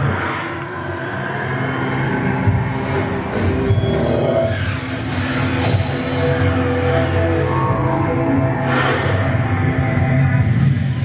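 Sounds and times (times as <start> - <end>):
dramatic soundtrack music: 1.7 - 11.0.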